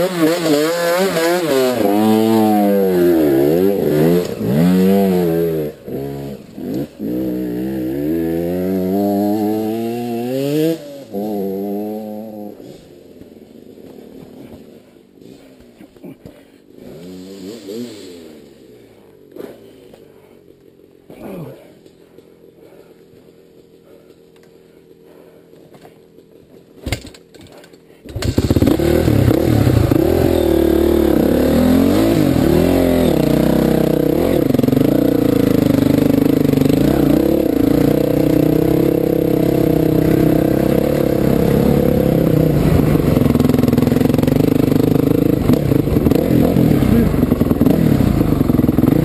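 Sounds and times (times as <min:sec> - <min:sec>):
dirt bike engine: 0:00.0 - 0:49.0.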